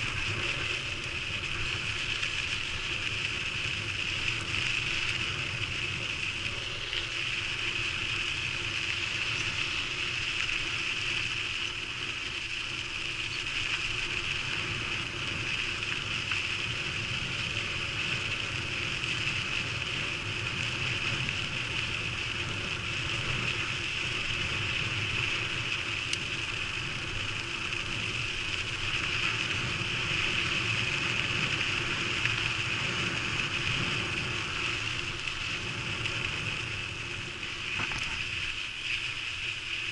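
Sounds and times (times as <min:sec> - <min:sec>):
rushing travel noise: 0:00.0 - 0:39.9.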